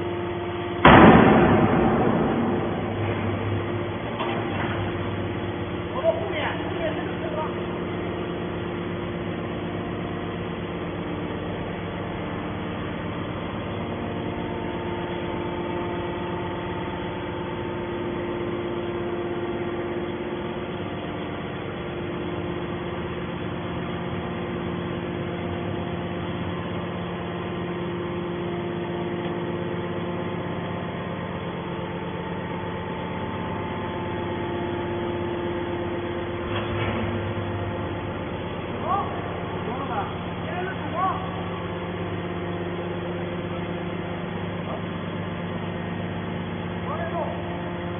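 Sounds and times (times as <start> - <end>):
hydraulic baler humming: 0.0 - 47.9.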